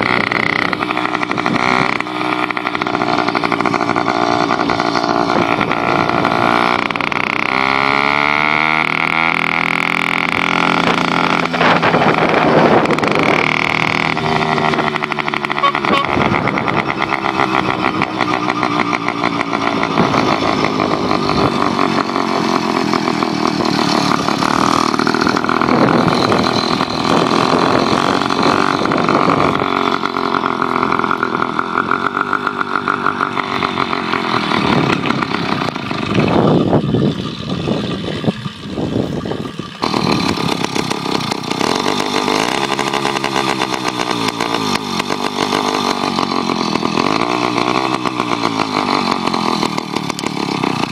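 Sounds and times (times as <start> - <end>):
two-stroke motorized bicycle engine: 0.0 - 50.9.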